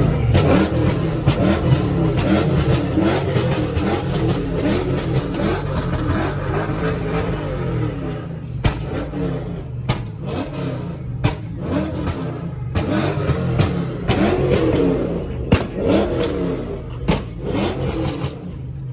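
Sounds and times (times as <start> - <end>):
car engines revving: 0.0 - 18.9.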